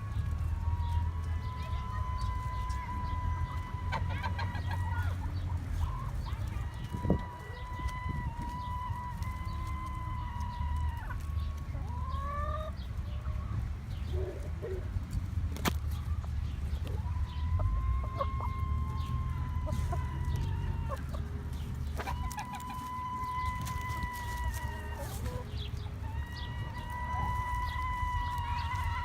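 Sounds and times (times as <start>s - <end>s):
chickens clucking: 0.0s - 29.0s
steady low rumble: 0.0s - 29.0s.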